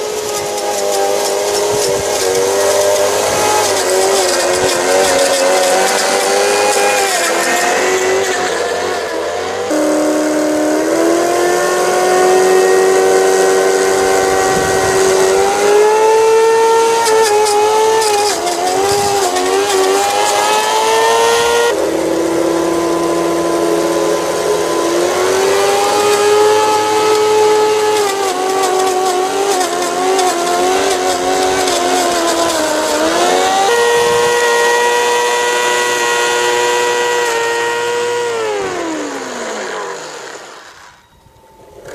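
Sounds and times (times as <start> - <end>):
small electric motors whining: 0.0 - 41.9.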